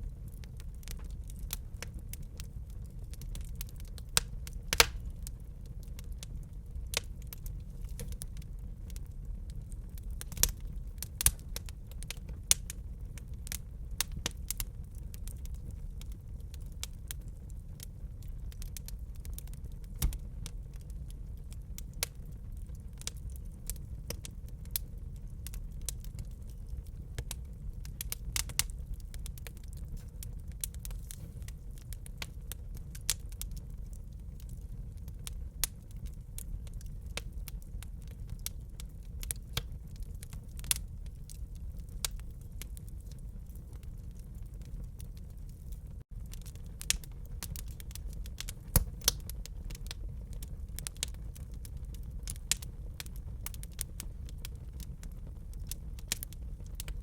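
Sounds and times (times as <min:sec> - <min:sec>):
fire rumbling: 0:00.0 - 0:57.0
wood fire crackling and popping: 0:00.0 - 0:57.0.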